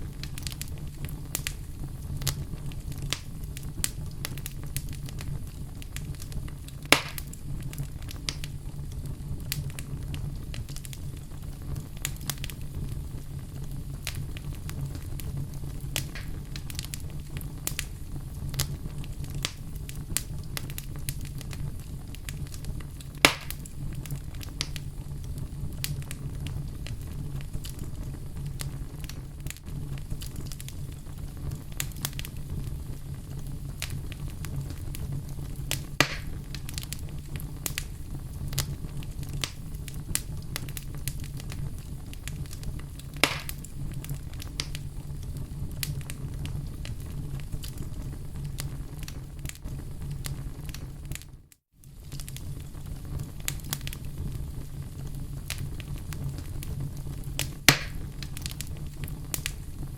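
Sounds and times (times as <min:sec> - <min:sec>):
loud fire pops: 0:00.0 - 0:59.9
low fire rumble: 0:00.0 - 0:59.9
wood fire crackling: 0:00.0 - 0:59.9.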